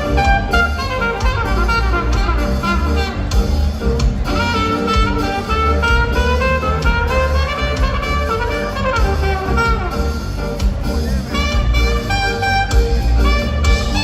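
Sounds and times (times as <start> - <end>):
bass and drum kit: 0.0 - 14.0
ska horn section: 0.0 - 14.0.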